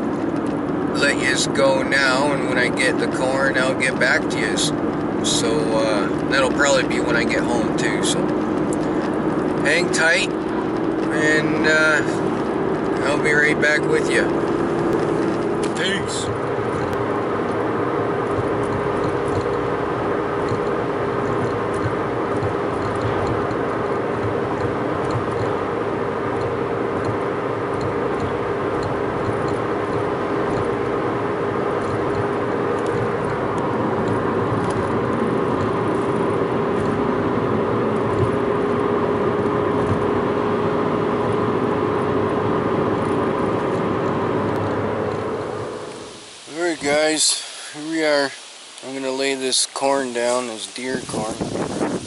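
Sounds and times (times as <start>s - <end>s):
road and engine drone in cabin: 0.0s - 52.0s.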